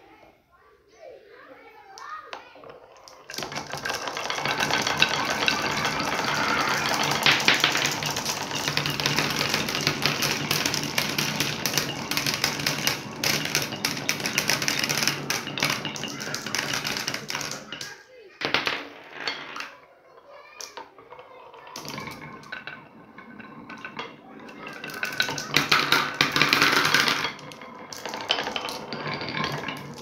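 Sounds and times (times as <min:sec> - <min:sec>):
marbles clattering on wooden tracks: 0:01.8 - 0:30.0.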